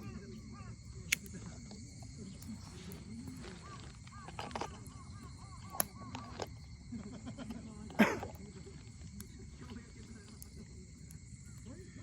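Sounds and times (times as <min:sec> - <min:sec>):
murmur of distant voices: 0:00.0 - 0:12.0
wood bonfire crackling: 0:00.0 - 0:12.0.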